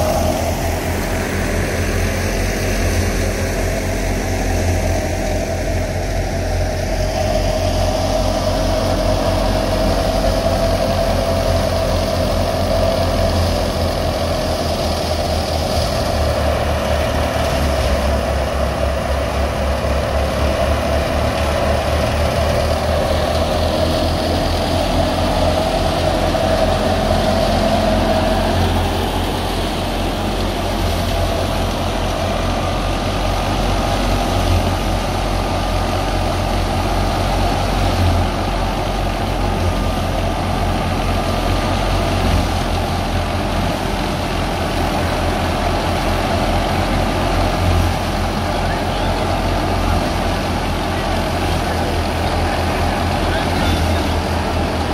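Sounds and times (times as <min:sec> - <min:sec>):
thresher drum and fan whirring: 0:00.0 - 0:54.9
tractor engine under load: 0:00.0 - 0:54.9.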